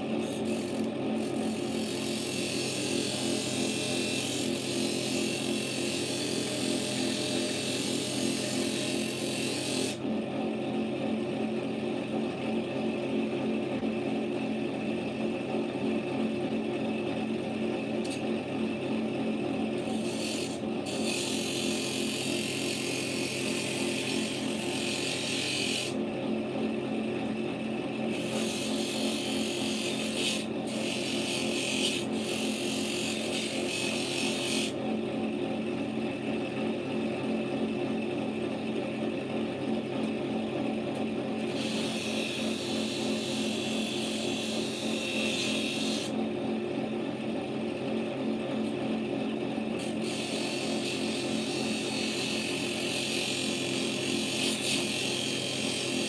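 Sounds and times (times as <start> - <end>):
drill press motor hum: 0.0 - 10.2, 17.2 - 37.0, 40.8 - 56.0.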